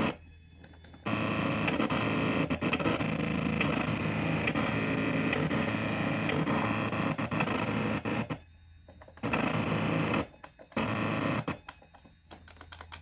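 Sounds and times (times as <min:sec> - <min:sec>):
glitchy electronic buzzing: 0:00.0 - 0:12.2.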